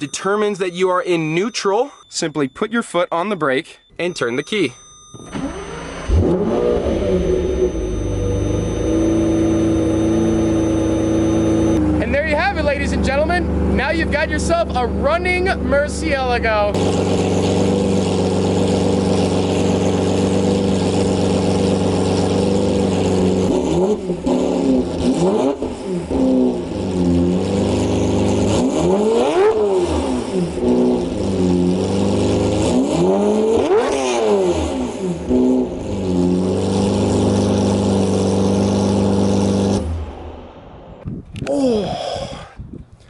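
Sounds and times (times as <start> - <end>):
sports car engine idling and revving: 5.1 - 41.0.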